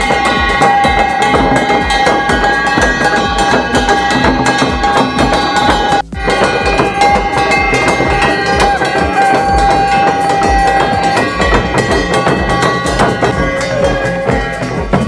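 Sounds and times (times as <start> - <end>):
conch shell blown: 0.0 - 15.0
loud traditional drumming: 0.0 - 15.0.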